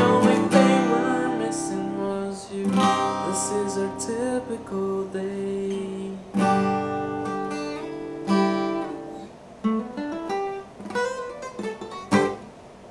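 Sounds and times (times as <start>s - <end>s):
acoustic guitar playing: 0.0s - 12.6s.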